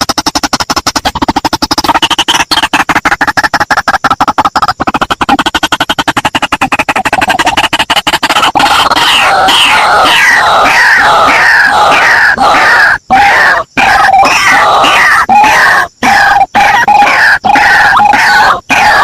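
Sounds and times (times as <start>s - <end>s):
harsh bird squawking: 0.0s - 19.0s.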